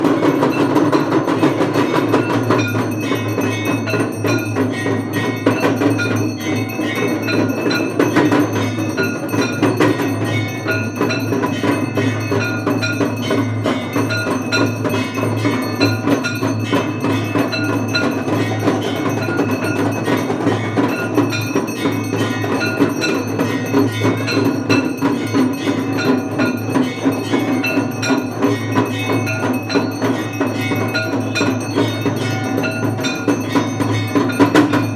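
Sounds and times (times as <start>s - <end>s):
struck percussion: 0.0s - 34.9s
temple bells ringing rapidly: 0.0s - 34.9s.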